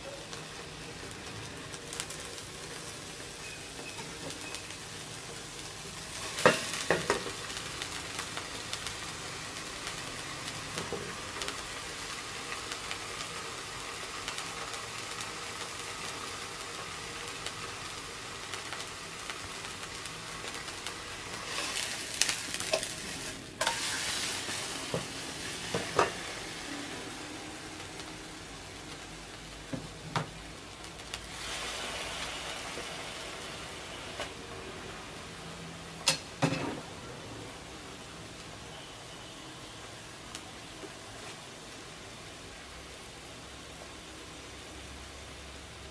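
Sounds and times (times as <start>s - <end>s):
fish and onion sizzling in oil: 0.0s - 45.9s.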